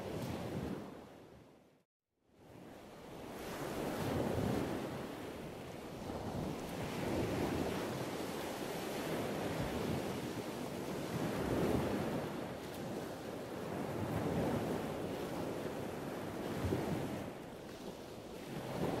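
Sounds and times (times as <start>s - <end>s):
waves washing on shore: 3.0s - 19.0s.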